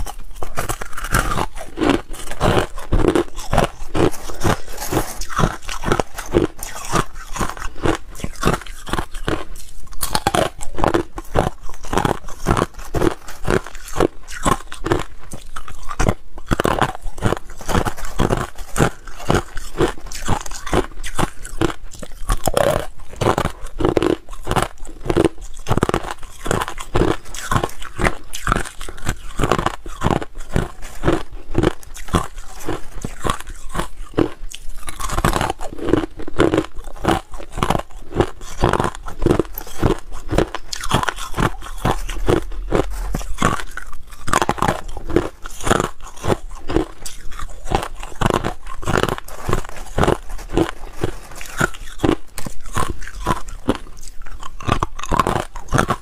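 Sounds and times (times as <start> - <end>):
person chewing crushed ice: 0.0 - 56.0.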